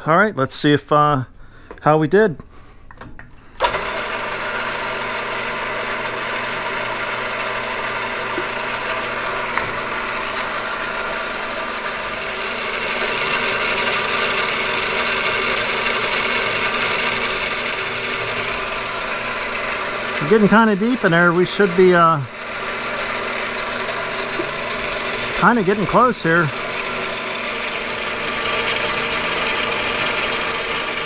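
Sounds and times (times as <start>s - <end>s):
drill boring into metal: 3.6s - 31.0s
milling machine hum: 3.6s - 31.0s.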